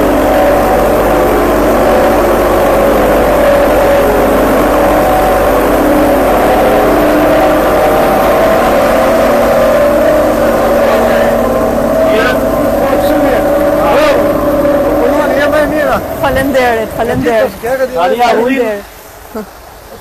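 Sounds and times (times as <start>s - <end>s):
road roller engine droning: 0.0s - 19.9s.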